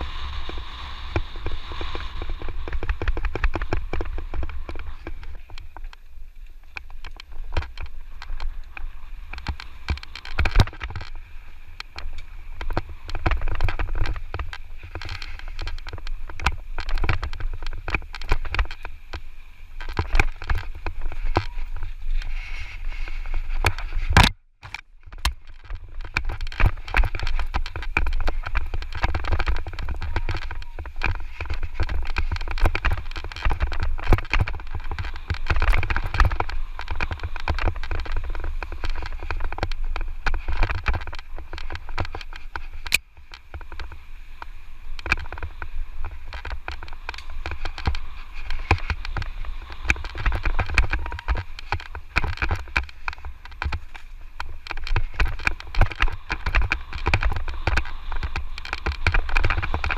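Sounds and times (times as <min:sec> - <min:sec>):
mountain bike rattling over trail: 0:00.0 - 0:59.9
wind buffeting microphone: 0:00.0 - 0:59.9.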